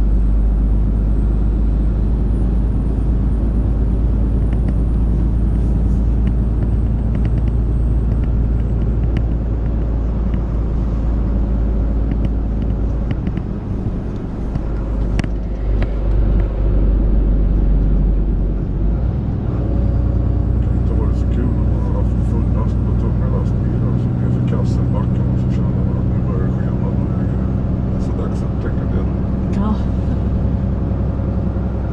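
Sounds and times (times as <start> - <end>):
road noise: 0.0 - 31.9
truck engine rumble: 0.0 - 31.9.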